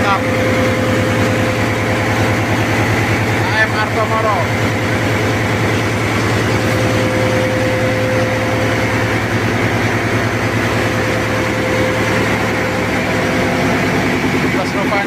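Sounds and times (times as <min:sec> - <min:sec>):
diesel engine pulsing drone: 0:00.0 - 0:15.0
steady hum: 0:00.0 - 0:15.0.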